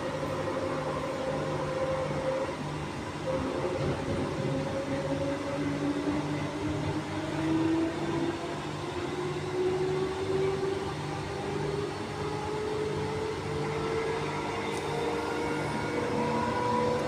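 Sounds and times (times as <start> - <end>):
electric train whine rising: 0.0 - 17.0.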